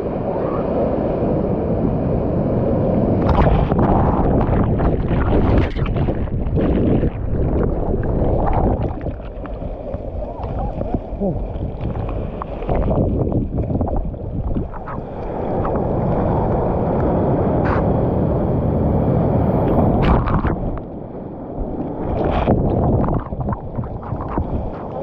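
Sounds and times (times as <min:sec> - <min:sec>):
surf rushing and churning: 0:00.0 - 0:25.0
water splashes: 0:03.0 - 0:25.0.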